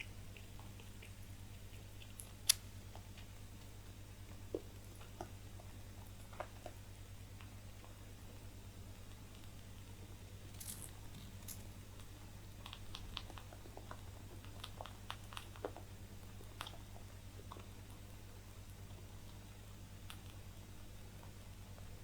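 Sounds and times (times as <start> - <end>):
rabbits chewing dry hay: 0.0 - 22.0
steady low hum: 0.0 - 22.0.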